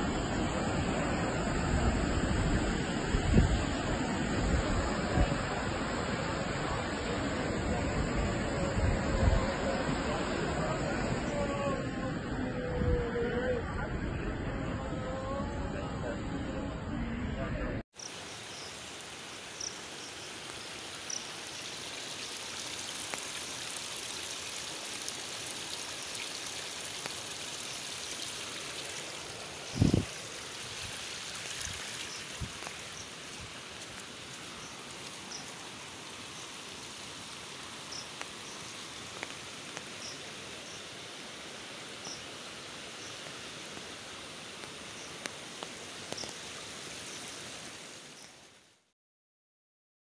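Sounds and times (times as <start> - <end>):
floodwater rushing in river: 0.0 - 13.4, 17.9 - 48.9.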